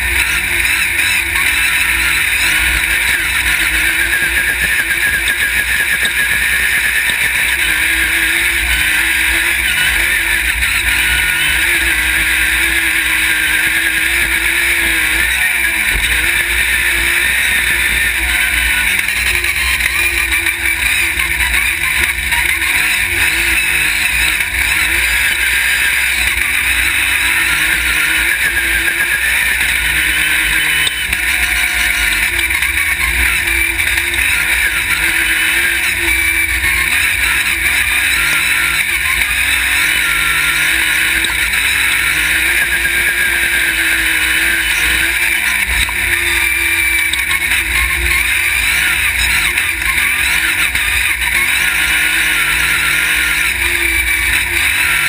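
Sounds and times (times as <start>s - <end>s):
buggy engine revving: 0.0s - 55.0s
wind and dirt road noise: 0.0s - 55.0s.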